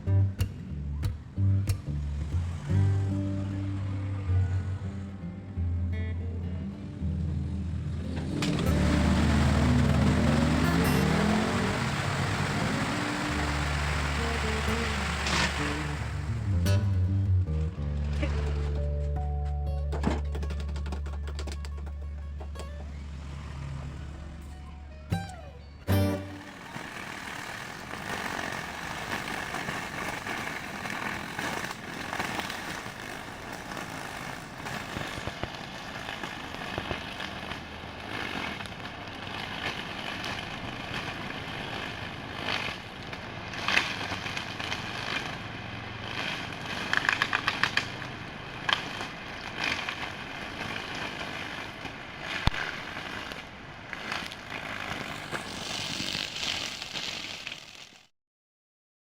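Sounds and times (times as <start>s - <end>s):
grass cutter motor whining: 7.3s - 17.0s, 17.7s - 57.7s
irregular crackling: 8.1s - 19.4s, 20.2s - 58.1s.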